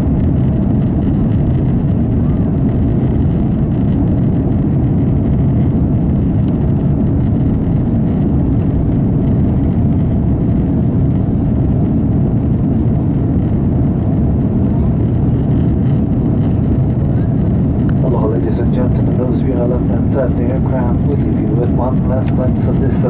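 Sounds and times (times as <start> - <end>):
faint hum: 0.0 - 23.0
jet engines rumbling in cabin: 0.0 - 23.0.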